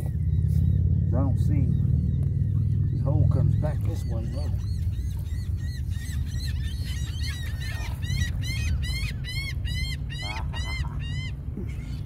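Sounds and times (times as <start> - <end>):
bird calling: 0.0 - 12.0
steady low rumble: 0.0 - 12.0.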